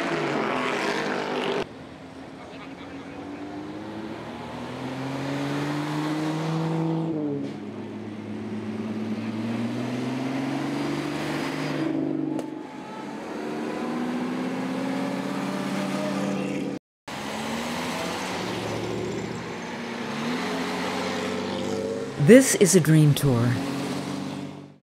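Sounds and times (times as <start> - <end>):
car engines accelerating past: 0.0 - 22.2, 23.6 - 24.8.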